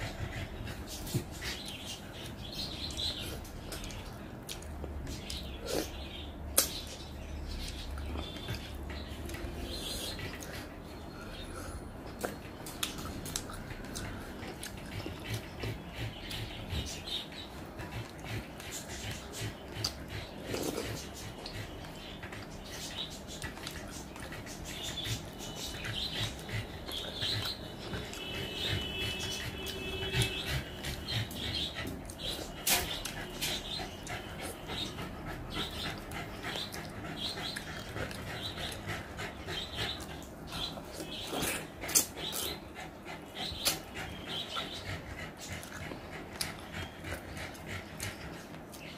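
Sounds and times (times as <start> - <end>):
closed-mouth chewing: 0.0 - 6.0, 11.6 - 48.9.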